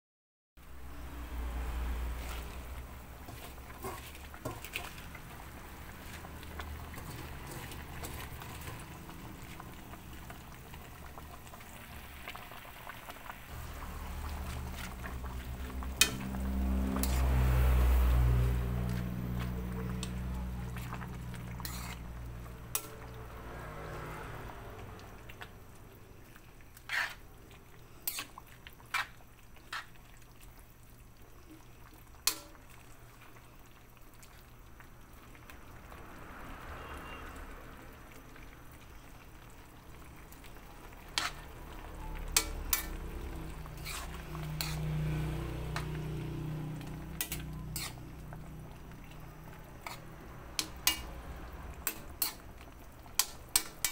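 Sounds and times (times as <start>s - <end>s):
spoon stirring leaves in pan: 0.8s - 12.4s, 13.5s - 25.6s, 26.2s - 30.7s, 31.4s - 33.4s, 39.9s - 53.9s.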